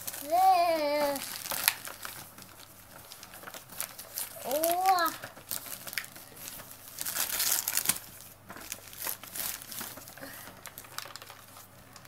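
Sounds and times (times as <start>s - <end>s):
wrapping paper tearing and rustling: 0.0s - 12.0s.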